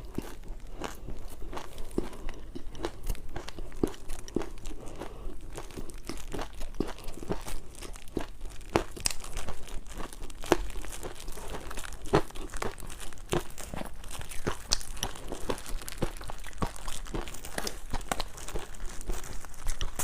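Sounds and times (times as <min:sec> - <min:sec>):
ice being bitten and crunched: 0:00.0 - 0:20.0.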